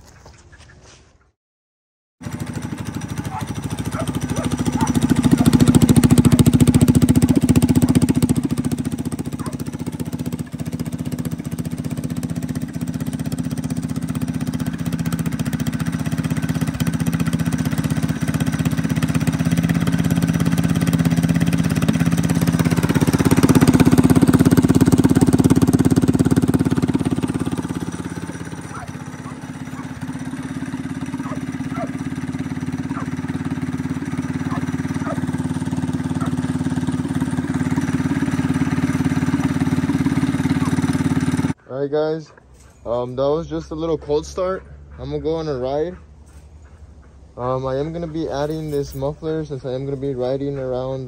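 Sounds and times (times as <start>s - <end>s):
small unmuffled motorbike engine: 2.2s - 41.7s, 42.3s - 51.0s.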